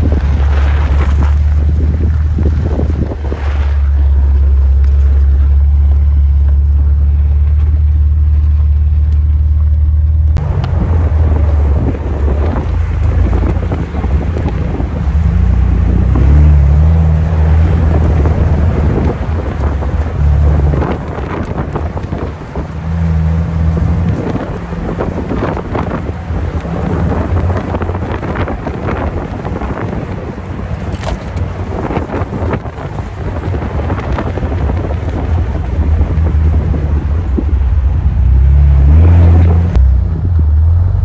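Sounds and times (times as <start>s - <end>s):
wind buffeting microphone: 0.0s - 9.1s, 10.1s - 41.0s
vehicle rumbling on dirt road: 0.0s - 41.0s.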